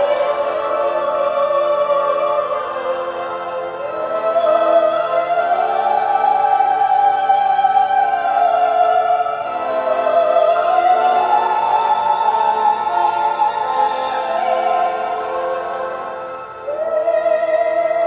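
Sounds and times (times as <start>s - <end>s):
sustained low orchestral chords: 0.0s - 17.9s.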